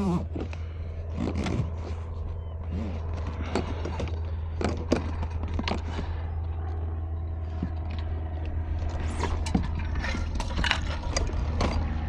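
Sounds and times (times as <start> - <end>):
gear scraping on plastic deck: 0.0 - 12.0
steady low rumble: 0.0 - 12.0.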